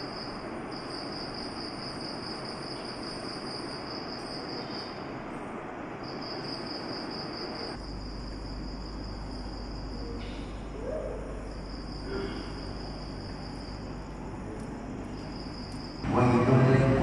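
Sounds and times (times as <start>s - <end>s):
fans whirring: 0.0s - 17.0s.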